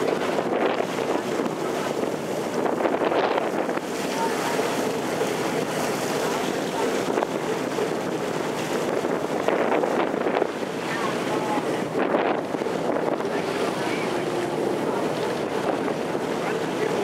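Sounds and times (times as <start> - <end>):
boat engine: 0.0 - 17.0
water rushing: 0.0 - 17.0
wind buffeting microphone: 0.0 - 17.0.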